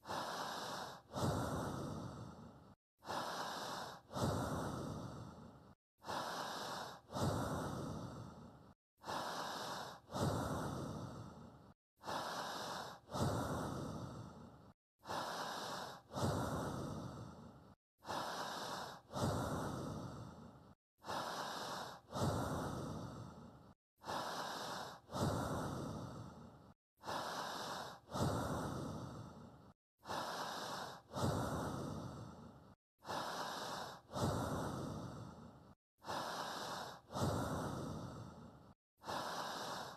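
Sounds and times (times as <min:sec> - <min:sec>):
person breathing: 0:00.0 - 0:39.9.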